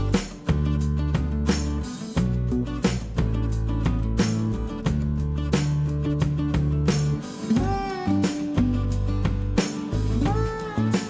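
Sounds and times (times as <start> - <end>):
country guitar music with beat: 0.0 - 11.0.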